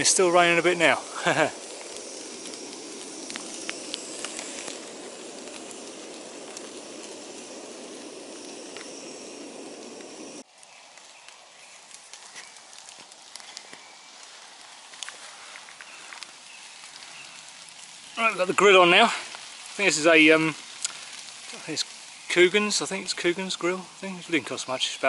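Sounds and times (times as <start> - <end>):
fire crackling: 0.0 - 25.0
wet campfire hissing: 0.0 - 25.0.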